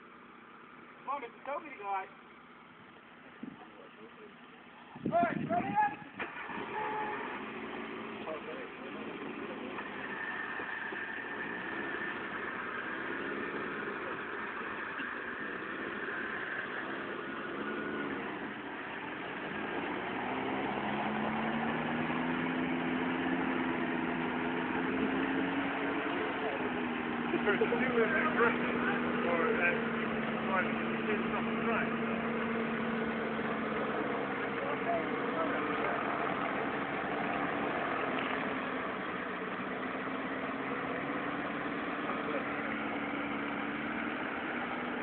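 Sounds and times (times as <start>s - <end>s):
vehicle engine revving under load: 4.8s - 45.0s.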